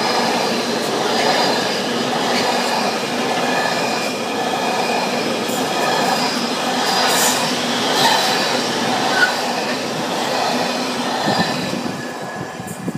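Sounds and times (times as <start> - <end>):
train wheels rolling on rails: 0.0 - 12.9.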